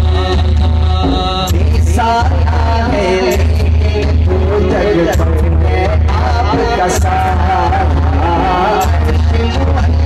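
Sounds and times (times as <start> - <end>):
deep steady bass: 0.0 - 10.0
man singing into a microphone: 0.0 - 10.0.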